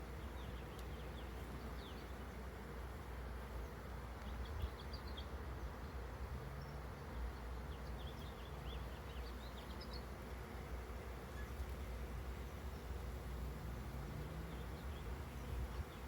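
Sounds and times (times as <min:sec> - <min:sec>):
swarm of bees buzzing: 0:00.0 - 0:16.0.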